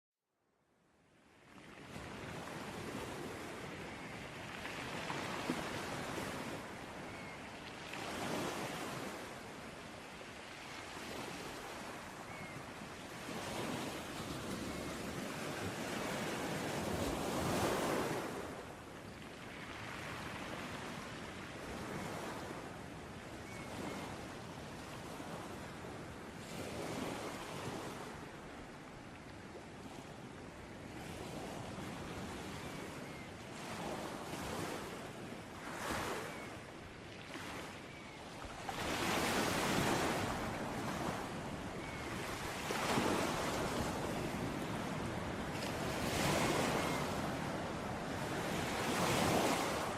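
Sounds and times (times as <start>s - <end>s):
sea waves breaking on shore: 1.4s - 49.9s.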